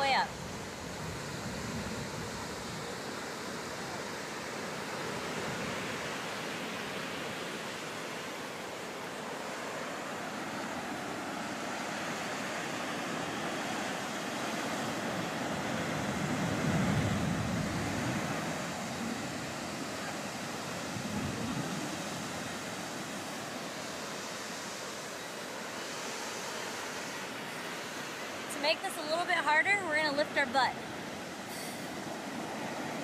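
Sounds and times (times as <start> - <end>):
ocean surf washing on beach: 0.0 - 33.0.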